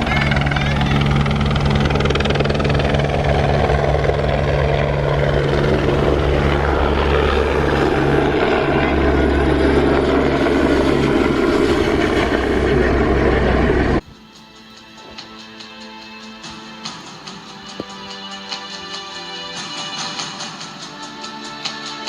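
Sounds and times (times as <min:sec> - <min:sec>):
helicopter rotor and engine drone: 0:00.0 - 0:22.0.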